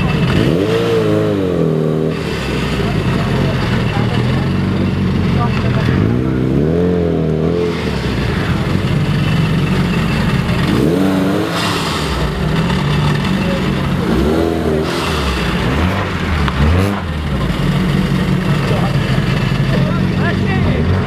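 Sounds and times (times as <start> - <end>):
car engine revving: 0.0 - 21.0
exhaust popping: 0.0 - 21.0.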